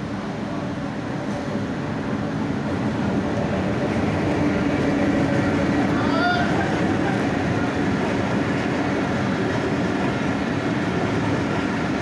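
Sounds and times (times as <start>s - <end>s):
diesel locomotive engine rumble: 0.0s - 12.0s
train rolling past: 0.0s - 12.0s.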